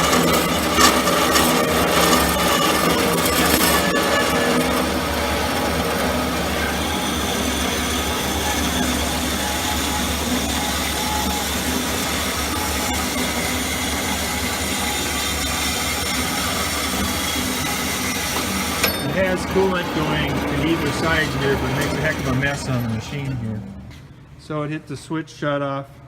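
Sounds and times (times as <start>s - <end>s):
band saw cutting: 0.0s - 23.8s
low motor hum: 0.0s - 24.7s.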